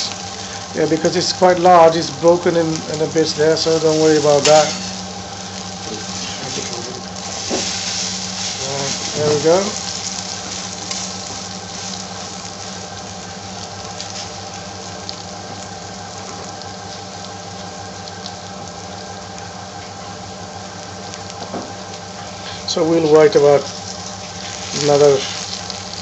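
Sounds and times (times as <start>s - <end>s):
low steady hum: 0.0s - 26.0s
omelette sizzling in frying pan: 0.0s - 26.0s.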